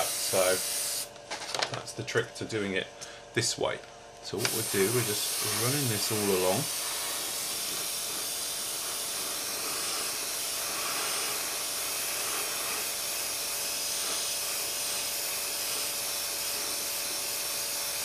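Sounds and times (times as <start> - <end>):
airbrush spraying hiss: 0.0 - 1.1, 4.4 - 18.0.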